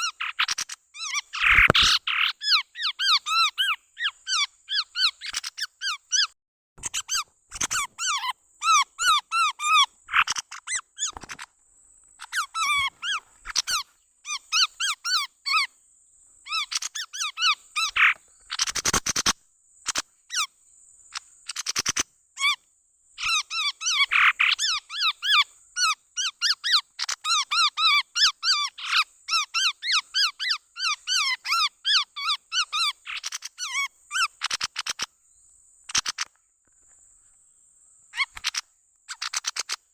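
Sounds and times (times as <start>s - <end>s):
bird chirping calls: 0.0s - 11.5s, 12.1s - 15.8s, 16.4s - 22.6s, 23.2s - 36.4s, 38.1s - 39.9s.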